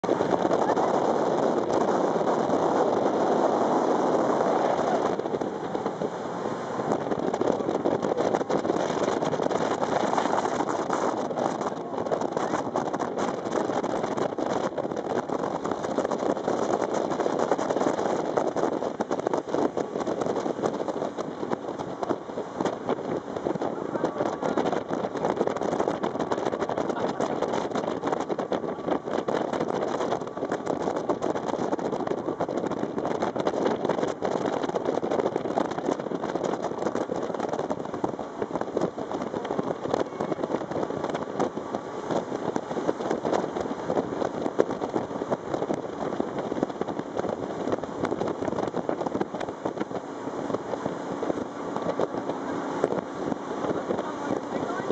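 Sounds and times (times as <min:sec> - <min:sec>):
boat engine running: 0:00.0 - 0:54.9
wind and water rushing: 0:00.0 - 0:54.9.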